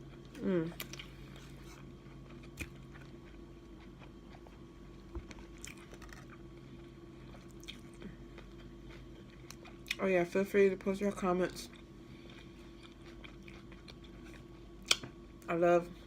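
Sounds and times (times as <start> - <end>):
faint chewing of bread: 0.0 - 10.0, 11.6 - 15.3
steady low hum: 0.0 - 16.0.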